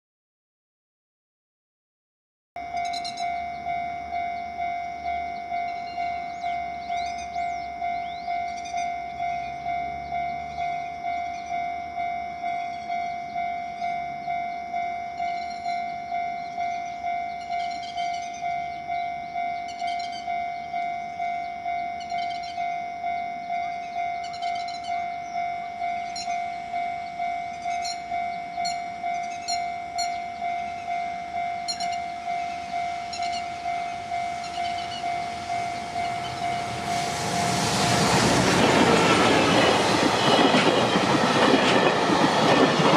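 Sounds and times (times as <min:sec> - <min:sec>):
freight train running: 0:02.6 - 0:42.9
level crossing alarm ringing: 0:02.6 - 0:42.9.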